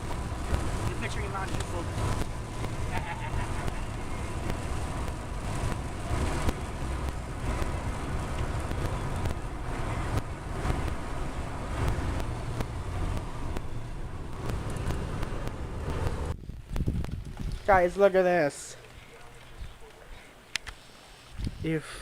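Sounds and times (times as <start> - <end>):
wind buffeting microphone: 0.0 - 18.0, 21.3 - 21.7.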